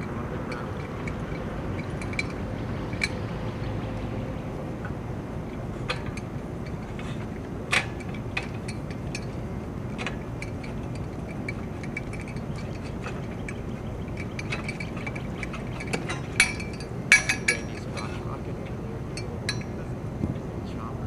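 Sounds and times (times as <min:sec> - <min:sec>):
metallic clinks: 0:00.0 - 0:03.6, 0:05.5 - 0:20.0
metal clank: 0:00.0 - 0:04.0, 0:04.8 - 0:20.0
machinery low rumble: 0:00.0 - 0:21.0.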